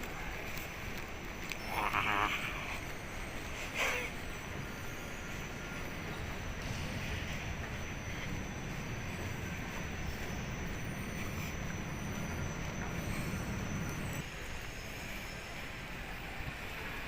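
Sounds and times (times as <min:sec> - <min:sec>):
background rumble and hiss: 0:00.0 - 0:17.0.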